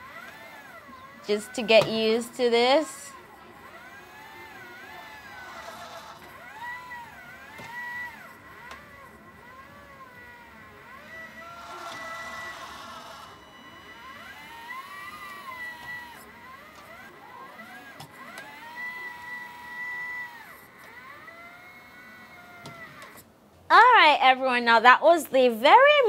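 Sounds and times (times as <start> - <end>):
hydraulic pump whining: 0.0 - 23.4.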